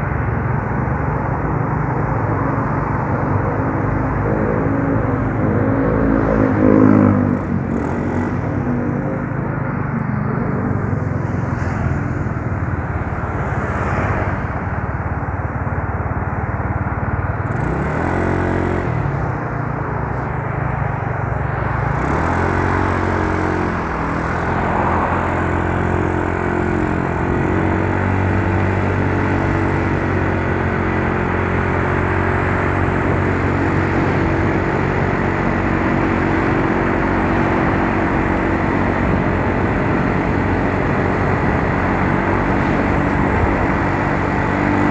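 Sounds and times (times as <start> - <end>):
scooter engine running: 0.0 - 44.9
wind and road noise: 0.0 - 44.9.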